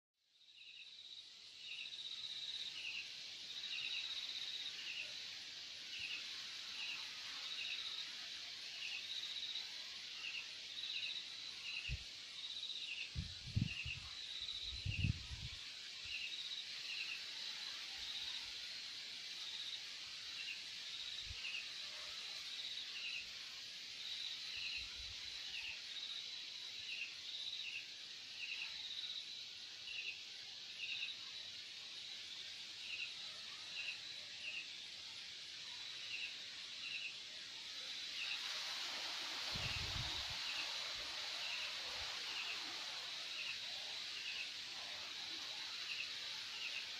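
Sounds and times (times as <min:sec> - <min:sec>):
crickets chirping: 0:00.3 - 0:46.9
steady hiss: 0:00.3 - 0:46.9.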